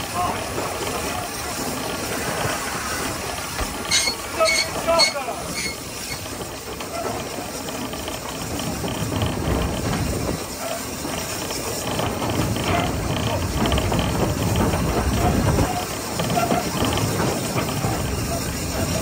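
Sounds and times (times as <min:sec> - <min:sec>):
steam locomotive running on rails: 0:00.0 - 0:19.0.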